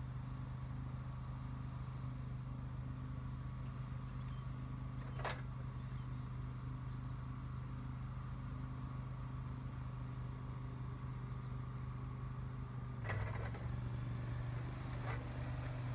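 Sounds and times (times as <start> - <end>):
skid steer engine running: 0.2 - 15.9.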